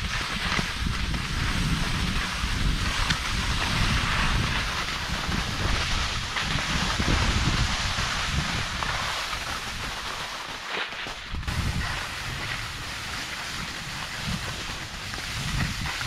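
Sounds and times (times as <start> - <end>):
wind buffeting microphone: 0.0 - 10.0, 11.2 - 16.0
skis sliding over snow: 0.0 - 16.0.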